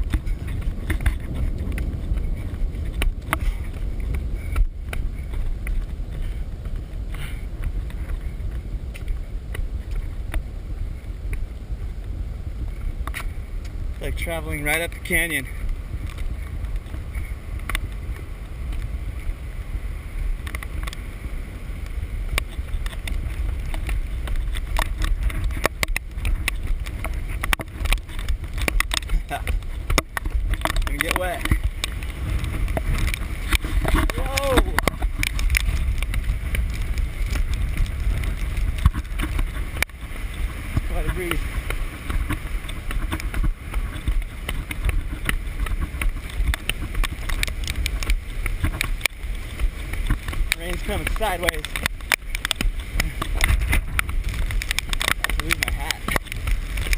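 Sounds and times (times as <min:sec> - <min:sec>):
wind buffeting camera: 0:00.0 - 0:56.9.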